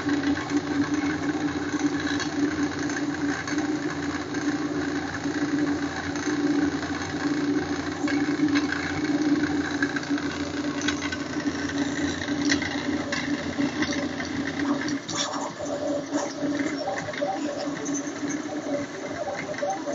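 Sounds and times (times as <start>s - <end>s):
three-d printer motors buzzing: 0.0s - 19.9s.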